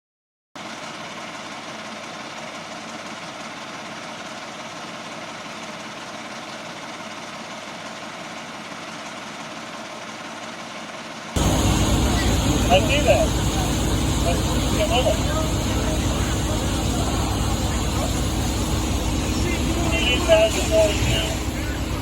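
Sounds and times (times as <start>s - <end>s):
fire engine droning: 0.6s - 22.0s.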